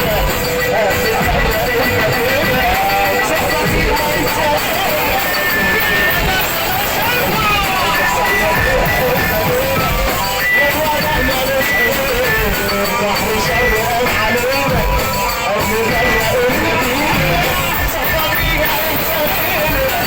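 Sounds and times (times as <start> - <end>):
song with full accompaniment: 0.0 - 20.0.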